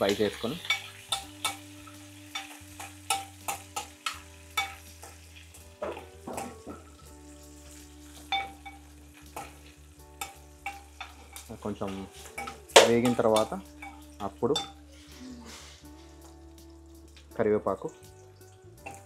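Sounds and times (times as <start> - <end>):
chillies sizzling in oil: 0.0 - 19.0
spoon scraping a pan: 0.3 - 16.0.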